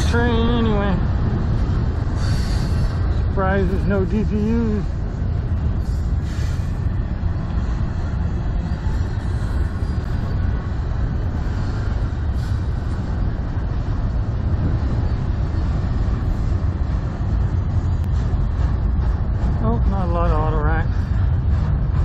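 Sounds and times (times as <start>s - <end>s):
freight train rolling past: 0.0s - 22.0s
wind buffeting microphone: 0.0s - 22.0s.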